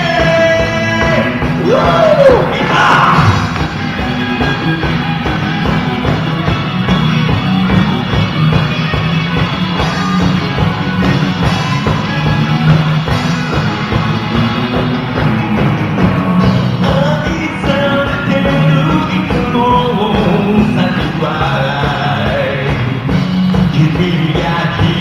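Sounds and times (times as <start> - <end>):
rock band playing instrumental: 0.0 - 25.0
steady drum beat: 0.0 - 25.0.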